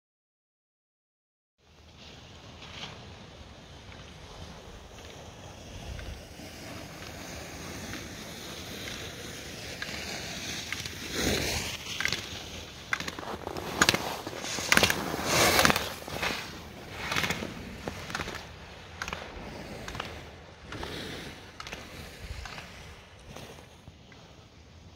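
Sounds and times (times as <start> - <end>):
skis scraping on snow: 1.6 - 24.9.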